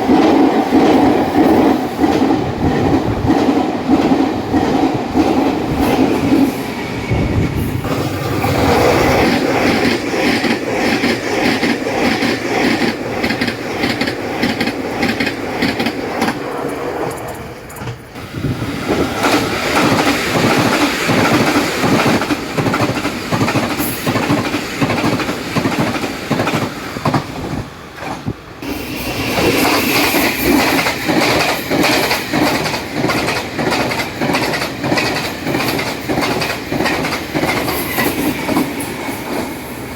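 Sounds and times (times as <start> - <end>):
train wheels clattering over rail joints: 7.5 - 39.6.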